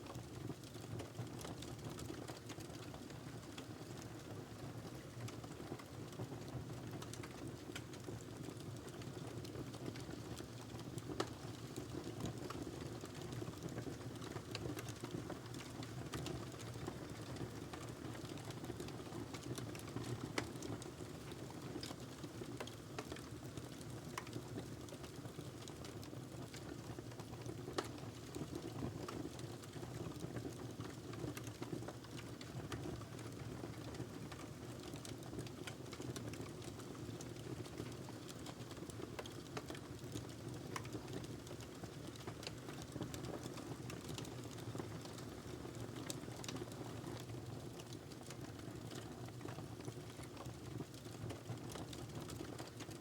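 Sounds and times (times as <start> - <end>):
fire crackling and popping: 6.8 - 53.0.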